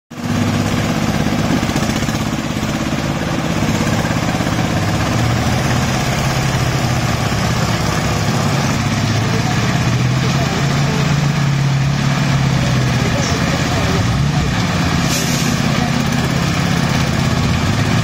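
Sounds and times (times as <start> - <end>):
mini dumper engine running: 0.1 - 18.0.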